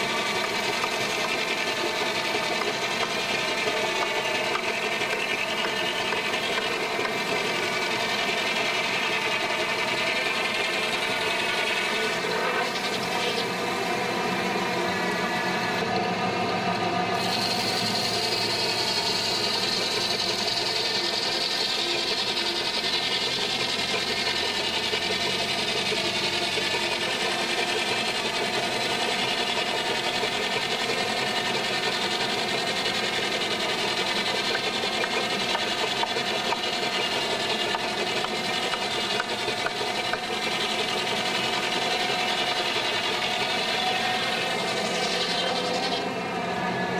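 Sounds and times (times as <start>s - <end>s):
circular saw cutting timber: 0.0s - 46.9s.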